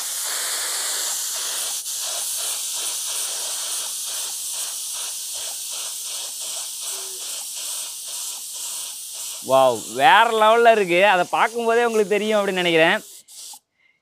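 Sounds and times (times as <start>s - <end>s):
paint spray gun hissing: 0.0s - 13.6s.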